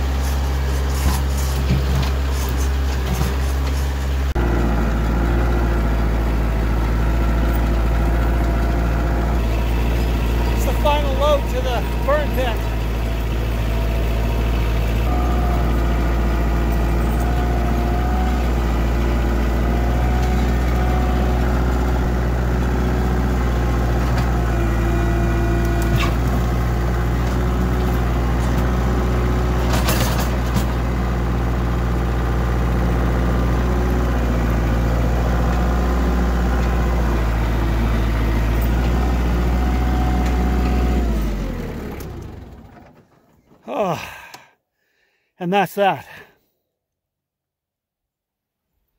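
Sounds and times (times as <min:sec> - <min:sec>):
tractor diesel engine running: 0:00.0 - 0:44.2.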